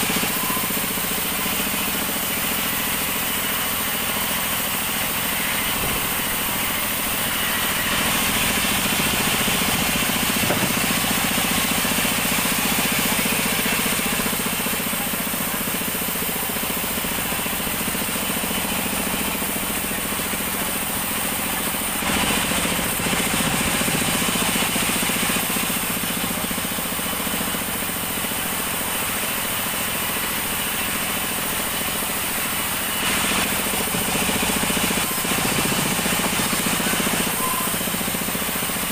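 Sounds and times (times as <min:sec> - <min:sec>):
band sawmill sawing log: 0:00.0 - 0:38.9.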